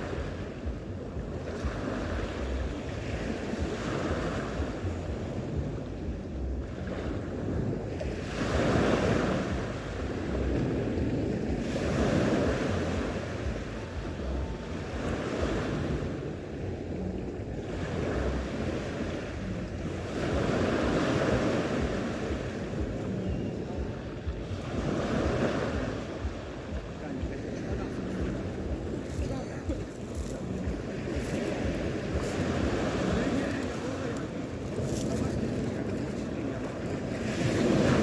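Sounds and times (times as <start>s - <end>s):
sea waves breaking on shore: 0.0s - 38.0s
wind rumbling on microphone: 0.0s - 38.0s.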